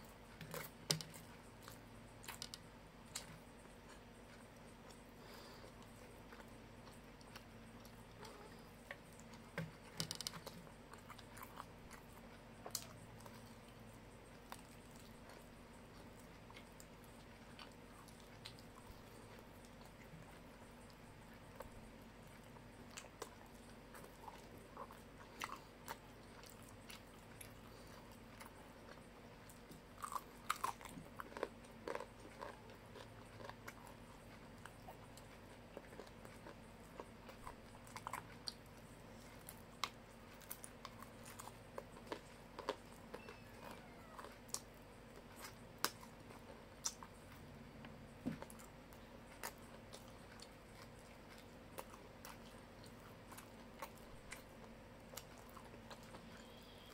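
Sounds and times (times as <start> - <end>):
chewing crunchy food: 0.0 - 56.9
faint steady hum: 0.0 - 56.9.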